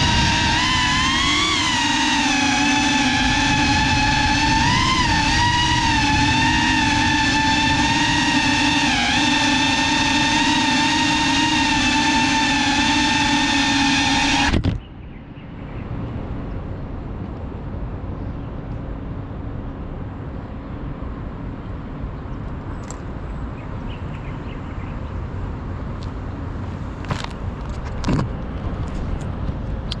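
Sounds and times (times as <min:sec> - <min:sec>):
distant road traffic: 0:00.0 - 0:30.0.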